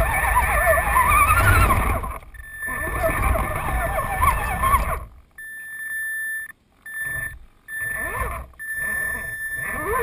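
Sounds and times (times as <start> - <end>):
electric motor whining: 0.0 - 5.3, 7.0 - 10.0.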